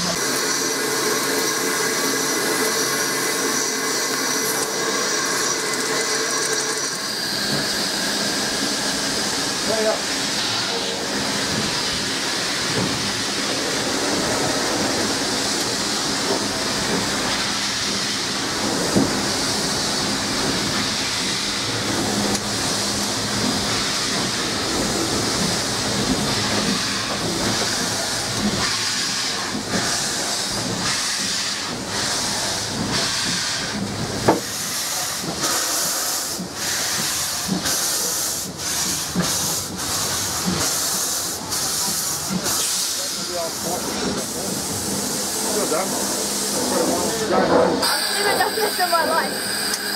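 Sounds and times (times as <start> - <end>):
steam hissing: 0.0 - 49.9.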